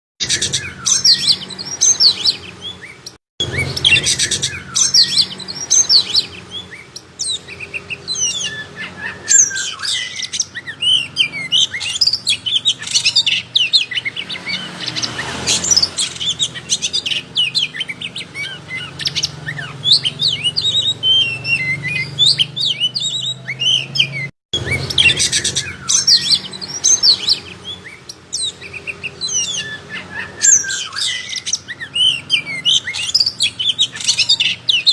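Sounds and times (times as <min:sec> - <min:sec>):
bird singing chirps and trills: 0:00.2 - 0:34.9.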